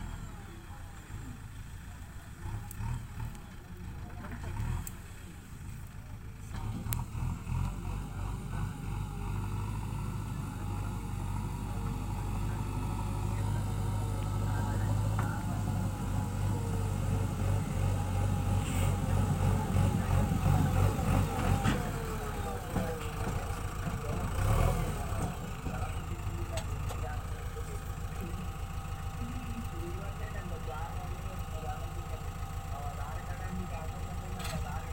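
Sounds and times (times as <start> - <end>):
diesel engine droning under load: 0.0 - 34.9.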